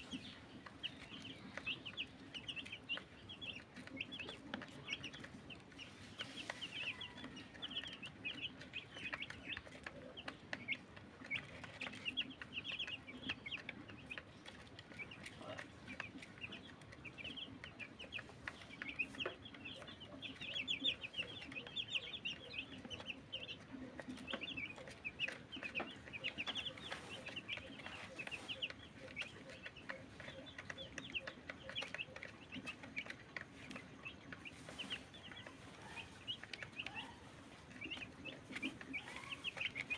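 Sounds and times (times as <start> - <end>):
beaks pecking on plastic feeder: 0.0 - 39.9
chicks peeping: 0.0 - 39.9.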